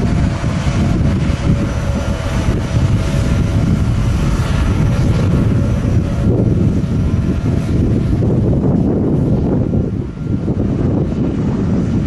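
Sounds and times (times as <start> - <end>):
jet engines rumbling: 0.0 - 12.0
thin steady whine: 0.0 - 12.0
wind buffeting microphone: 0.0 - 12.0.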